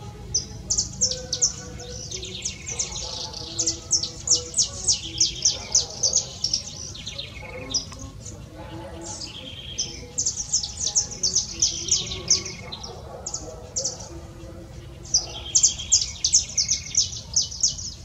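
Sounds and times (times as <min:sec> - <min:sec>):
finch singing: 0:00.0 - 0:18.0.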